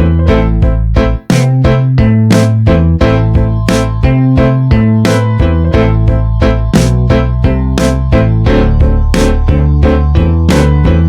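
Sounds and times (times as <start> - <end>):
upbeat keyboard music with bass: 0.0 - 11.0.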